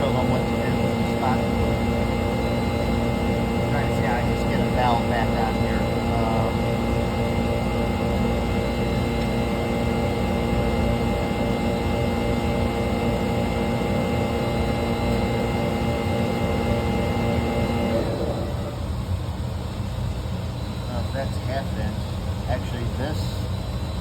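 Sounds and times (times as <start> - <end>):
air compressor hum: 0.0 - 24.0.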